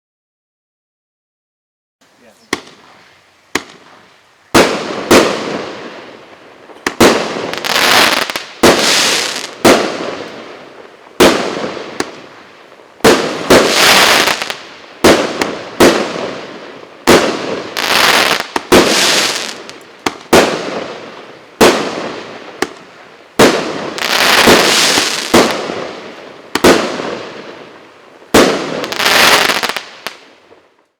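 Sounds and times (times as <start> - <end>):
firework bangs with crackling hiss: 2.0 - 30.8.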